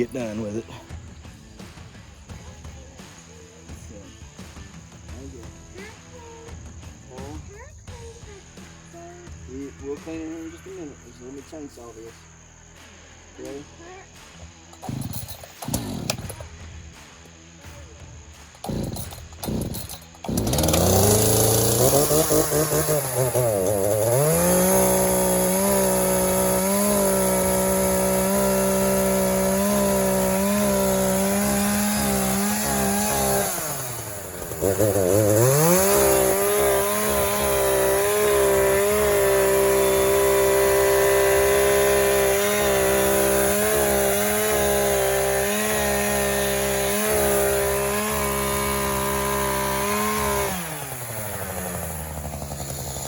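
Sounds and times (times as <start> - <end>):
chainsaw cutting and revving: 0.0 - 53.0.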